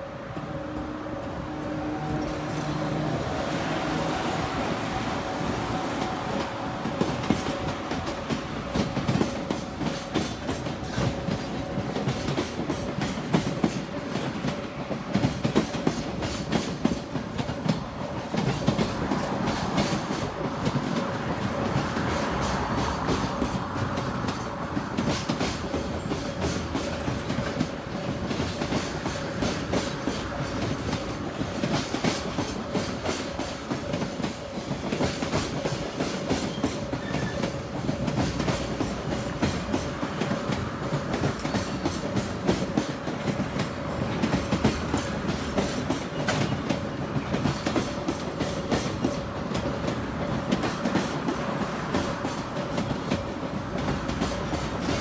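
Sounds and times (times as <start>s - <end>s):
freight train rumble: 0.0s - 55.0s
train wheels clickety-clack: 0.0s - 55.0s.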